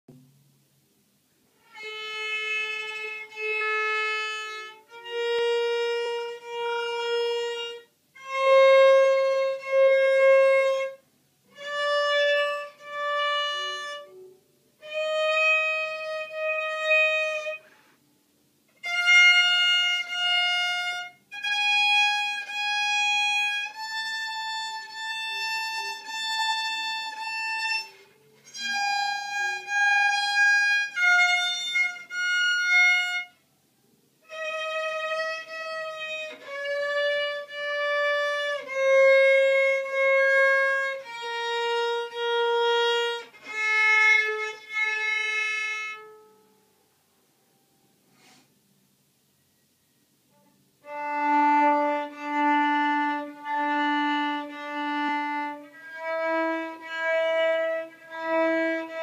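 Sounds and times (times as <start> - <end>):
violin playing a slow scale: 1.5 - 18.1, 18.7 - 33.4, 34.2 - 46.6, 50.3 - 59.0.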